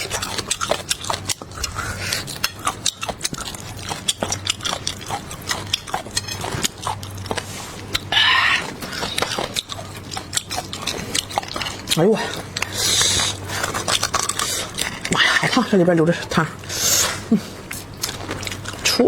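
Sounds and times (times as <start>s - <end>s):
chewing clicks: 0.0s - 15.2s, 17.7s - 19.0s.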